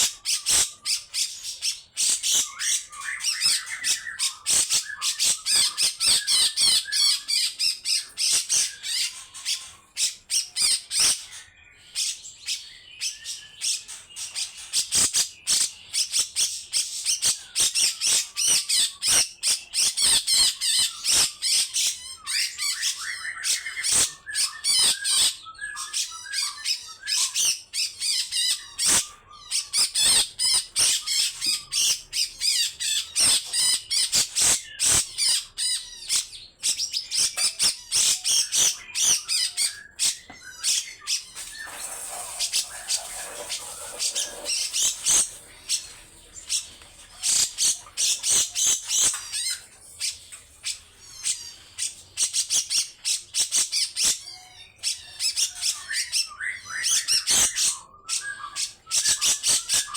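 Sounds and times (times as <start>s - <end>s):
bird harsh rasping calls: 0.0s - 59.9s.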